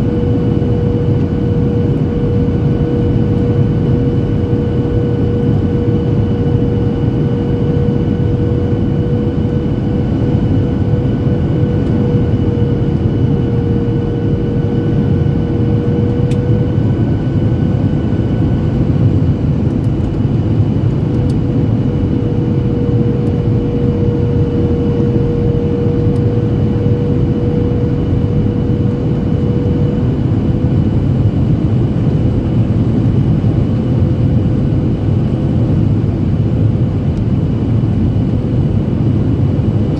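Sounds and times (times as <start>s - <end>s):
jet engines roaring in cabin: 0.0s - 39.9s.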